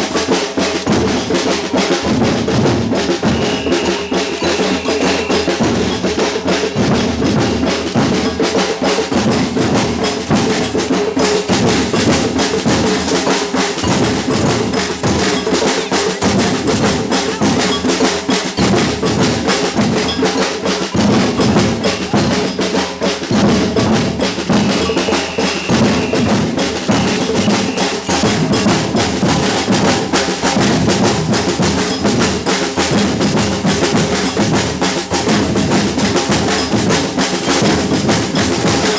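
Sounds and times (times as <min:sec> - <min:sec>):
bass drums: 0:00.0 - 0:38.9
snare drum strokes: 0:00.0 - 0:38.9
woody hand percussion hits: 0:00.0 - 0:38.9.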